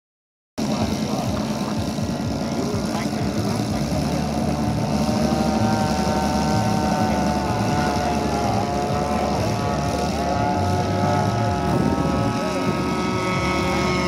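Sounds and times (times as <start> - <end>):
radial engine running with propeller: 0.6 - 14.0.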